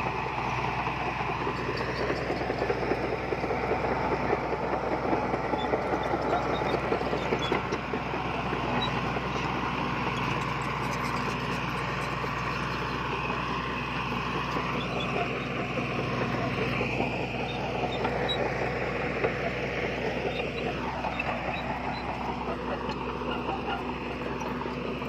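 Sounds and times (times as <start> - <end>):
heavy machinery diesel engine: 0.0 - 25.0.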